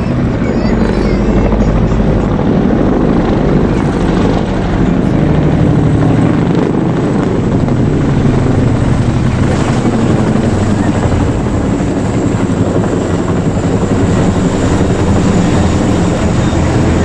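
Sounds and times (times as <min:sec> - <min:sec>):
helicopter flying over: 0:00.0 - 0:17.0.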